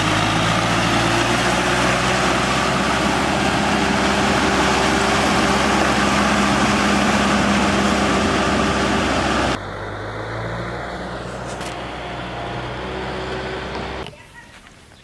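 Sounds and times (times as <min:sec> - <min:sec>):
diesel tractor engine running: 0:00.0 - 0:14.1.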